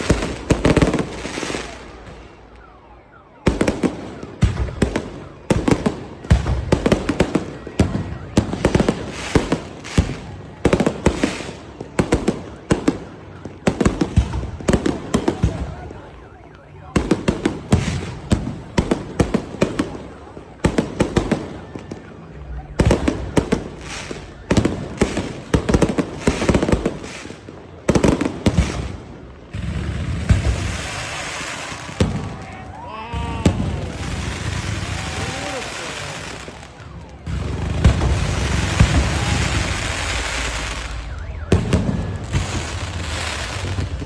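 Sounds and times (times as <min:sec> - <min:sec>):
fireworks bangs and pops: 0:00.0 - 0:44.0
fireworks crackling: 0:00.0 - 0:44.0.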